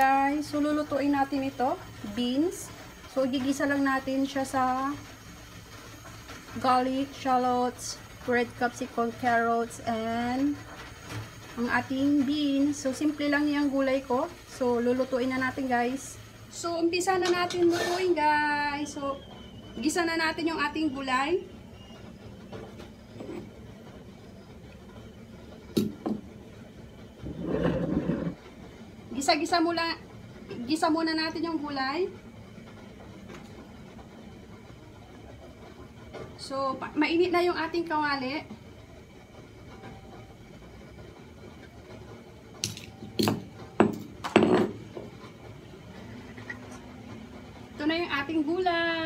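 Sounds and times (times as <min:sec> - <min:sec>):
stove background noise: 0:00.0 - 0:49.0.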